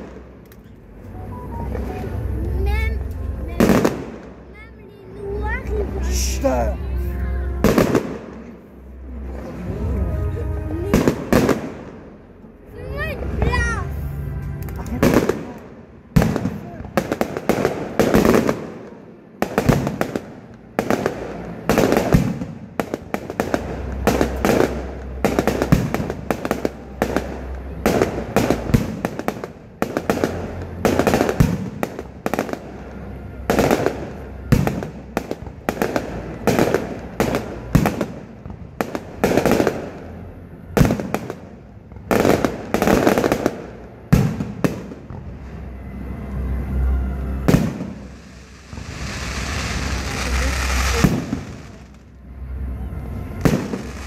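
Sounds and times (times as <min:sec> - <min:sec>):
fireworks bursting with loud bangs: 0:00.0 - 0:00.8, 0:01.6 - 0:06.8, 0:07.6 - 0:08.6, 0:09.2 - 0:12.4, 0:13.0 - 0:46.0, 0:47.0 - 0:54.0.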